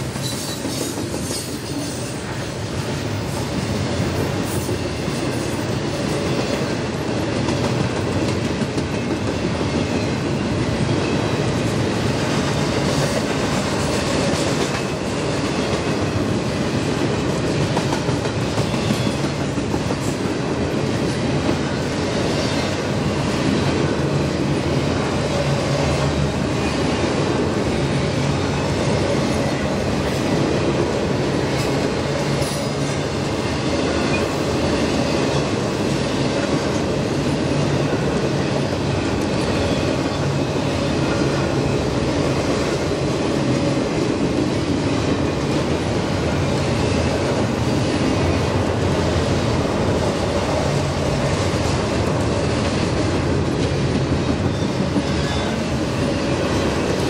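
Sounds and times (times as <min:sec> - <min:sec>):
steel wheels rumbling on rail: 0:00.0 - 0:57.0.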